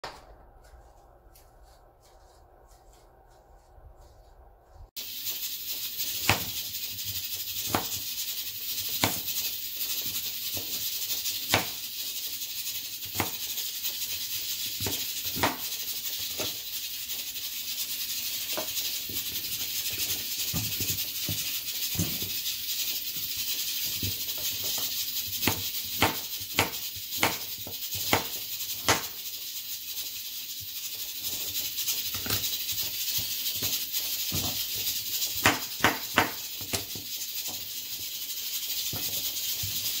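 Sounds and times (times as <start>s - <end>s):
steady high hiss: 4.8s - 40.0s.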